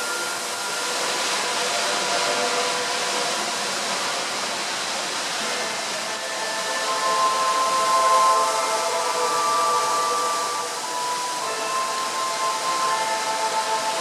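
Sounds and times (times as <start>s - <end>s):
ambient background music: 0.0s - 14.0s
wind rushing through trees: 0.0s - 14.0s.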